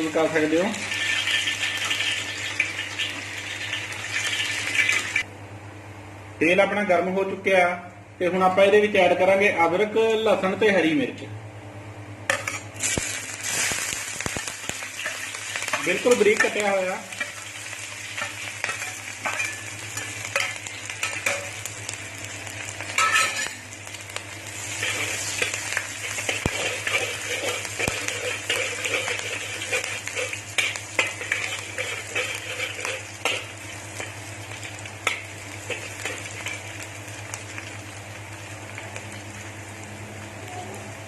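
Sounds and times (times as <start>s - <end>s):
food sizzling in hot oil: 0.0s - 5.3s, 12.3s - 40.4s.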